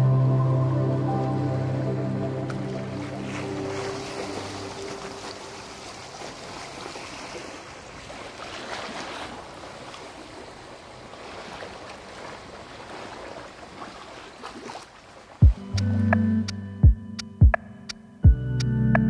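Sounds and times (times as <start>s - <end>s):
water rushing along hull: 0.0s - 16.1s.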